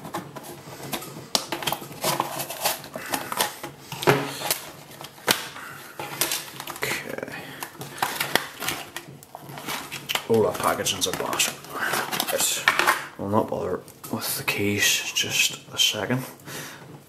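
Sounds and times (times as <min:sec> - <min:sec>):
plastic packaging crackling: 0:00.0 - 0:17.0.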